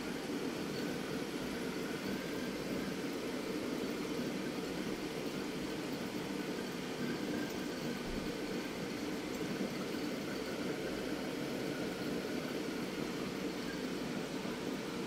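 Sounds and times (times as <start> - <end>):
aquarium pumps humming: 0.0 - 15.0
circulating water hiss: 0.0 - 15.0.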